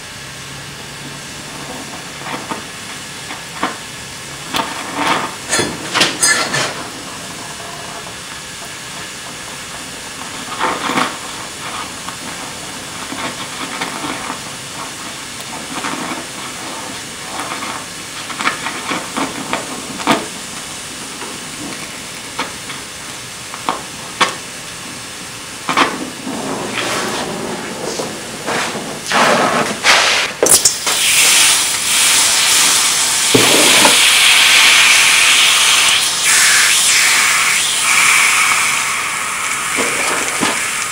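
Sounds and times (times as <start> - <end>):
welding torch flame hissing: 0.0 - 40.9
sharp pops and crackles: 4.4 - 26.8, 30.3 - 40.9.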